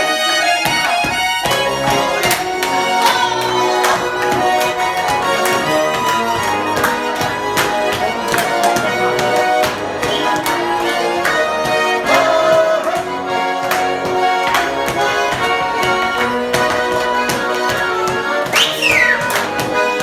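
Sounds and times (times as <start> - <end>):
button accordion playing folk tune: 0.0 - 20.0.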